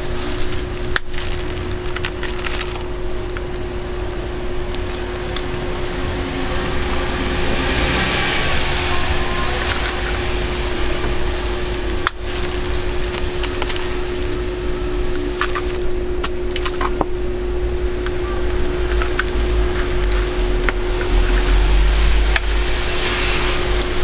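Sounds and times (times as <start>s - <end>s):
constant tone: 0.0s - 24.0s
steady hum: 0.0s - 24.0s.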